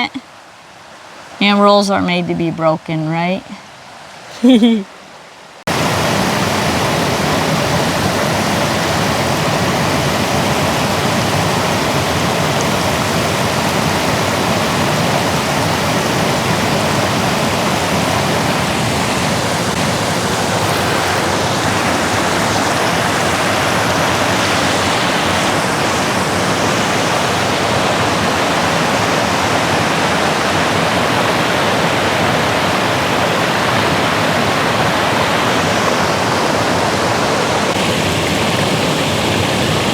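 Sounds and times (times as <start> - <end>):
river water rushing over rocks: 3.7 - 39.9.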